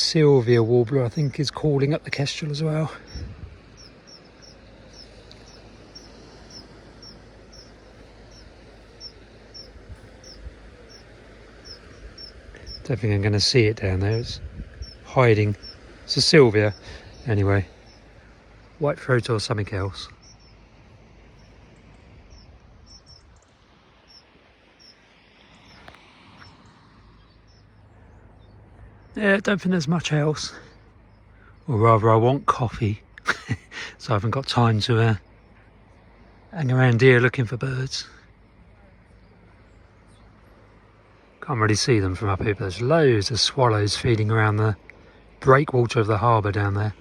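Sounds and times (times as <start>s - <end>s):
faint outdoor background noise: 0.0s - 47.0s
warbler alarm calls: 0.0s - 47.0s.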